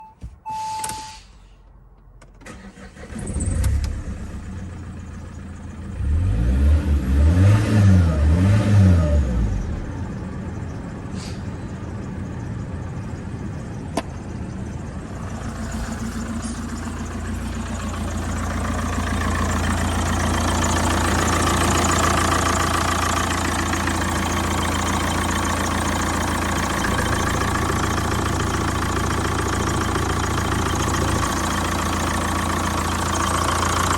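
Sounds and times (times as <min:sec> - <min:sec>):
diesel engine cranking: 0:00.4 - 0:05.0, 0:06.0 - 0:33.9
diesel engine revving and idling: 0:02.5 - 0:33.9.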